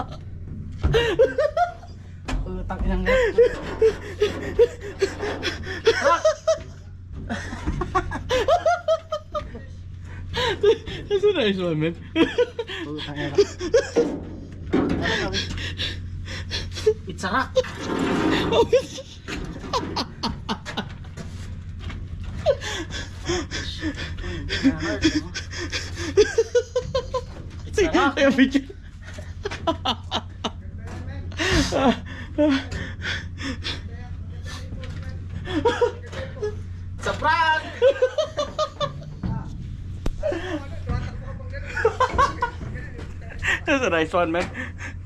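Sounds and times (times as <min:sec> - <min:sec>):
people laughing: 0:00.0 - 0:02.0, 0:03.0 - 0:11.4, 0:12.0 - 0:21.5, 0:22.2 - 0:39.5, 0:40.1 - 0:45.0
steady low hum: 0:00.0 - 0:45.0.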